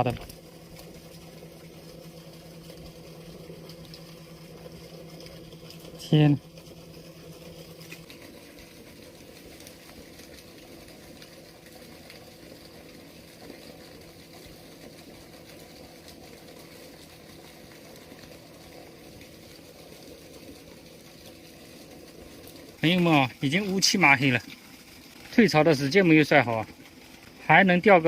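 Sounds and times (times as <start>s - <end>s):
faint steady hum: 0.0s - 28.0s
water rushing through sluice gate: 0.0s - 28.0s.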